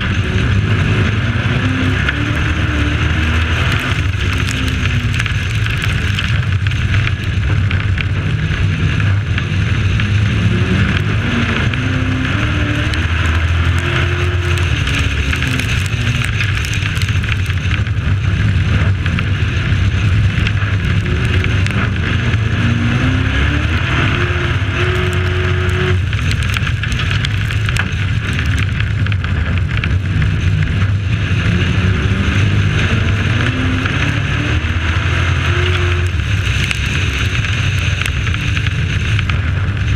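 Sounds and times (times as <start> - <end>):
race truck engine: 0.0 - 39.9
wind and tyre rushing: 0.0 - 39.9.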